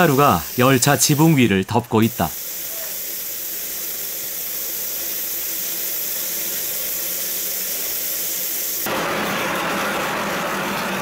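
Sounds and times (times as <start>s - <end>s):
steam locomotive hissing: 0.0s - 8.9s.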